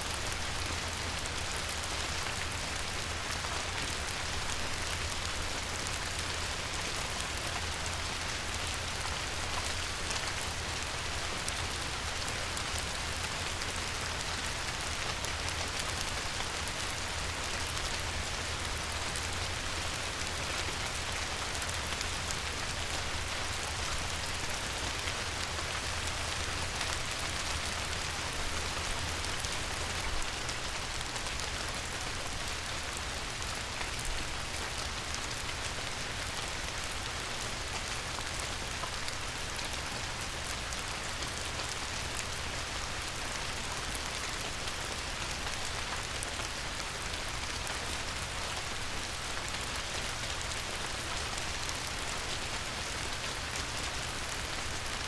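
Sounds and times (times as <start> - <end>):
light rain falling on river: 0.0 - 55.0.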